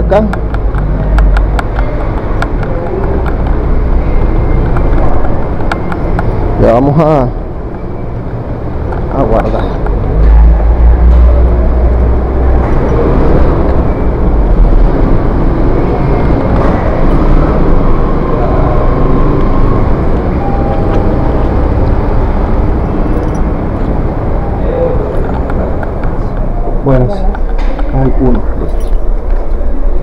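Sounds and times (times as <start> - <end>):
low rumble of car traffic: 0.0 - 30.0.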